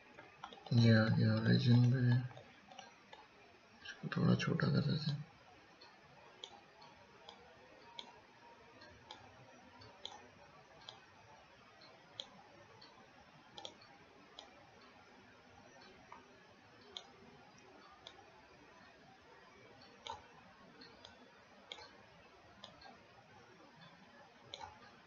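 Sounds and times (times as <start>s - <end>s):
low background hiss: 0.0s - 25.0s
computer mouse clicks: 0.1s - 3.3s, 5.8s - 11.2s, 11.8s - 22.0s, 22.6s - 23.1s, 23.7s - 25.0s.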